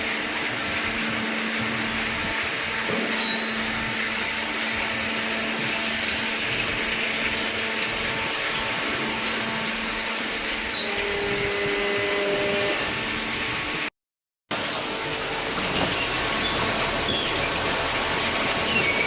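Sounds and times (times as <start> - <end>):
motor and hydraulic pump humming: 0.0 - 13.9, 14.5 - 19.0.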